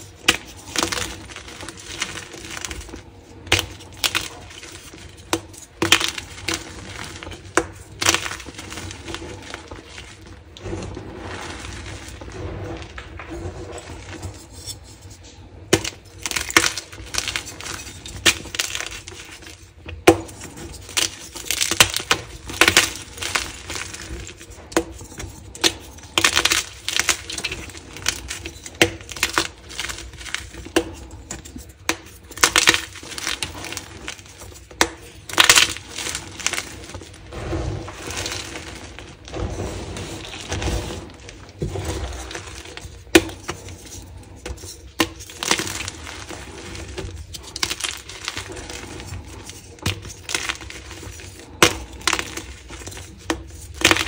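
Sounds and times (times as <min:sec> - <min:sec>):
chalk blocks crunching and crumbling: 0:00.0 - 0:54.0.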